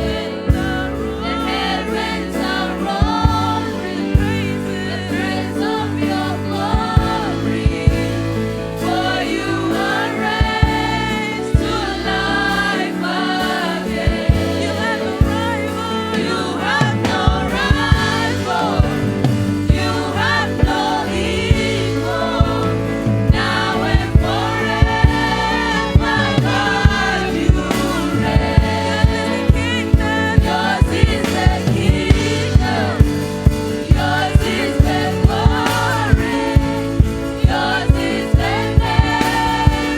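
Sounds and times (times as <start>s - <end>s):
drums steady beat: 0.0s - 39.9s
keyboard chords: 0.0s - 39.9s
singers in harmony: 0.0s - 39.9s.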